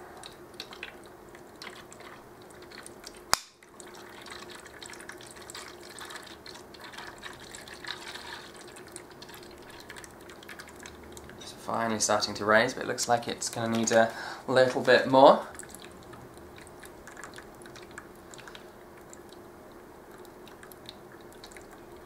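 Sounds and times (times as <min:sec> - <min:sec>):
water pouring and splashing: 0:00.6 - 0:19.4, 0:20.0 - 0:22.0.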